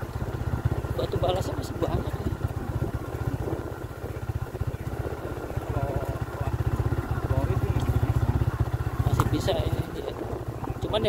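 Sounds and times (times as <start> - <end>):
motorcycle engine running slowly: 0.0 - 11.0.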